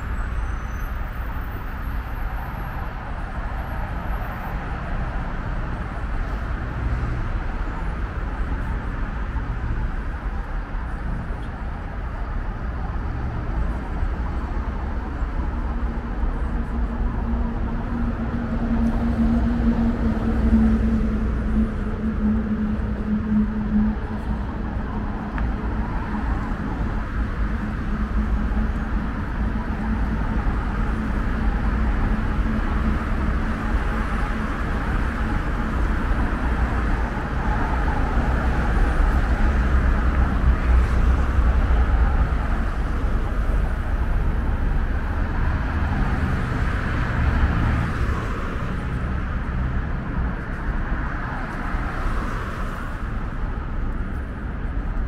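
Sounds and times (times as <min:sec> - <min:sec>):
engine-like hum: 0:00.0 - 0:55.0
passing cars rumbling: 0:00.0 - 0:55.0.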